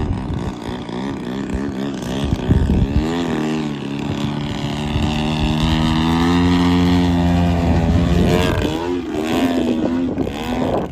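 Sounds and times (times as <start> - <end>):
model plane engine at high power: 0.0 - 10.9.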